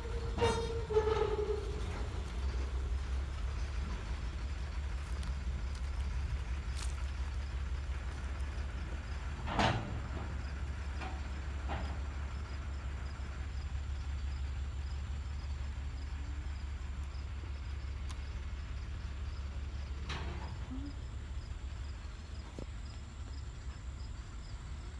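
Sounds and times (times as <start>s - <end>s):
vehicle engine rumbling: 0.0s - 24.9s.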